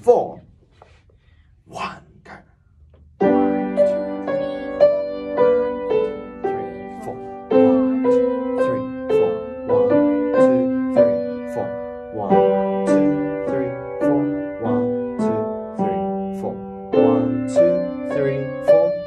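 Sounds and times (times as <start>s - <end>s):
held piano chords: 3.1s - 19.0s
upright piano melody notes: 3.2s - 19.0s.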